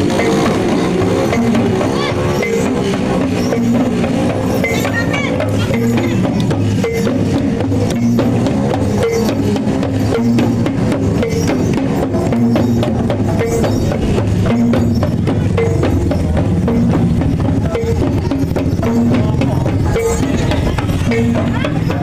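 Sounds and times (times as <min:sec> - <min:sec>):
drums in driving rhythm: 0:00.0 - 0:22.0
struck gong notes: 0:00.0 - 0:22.0.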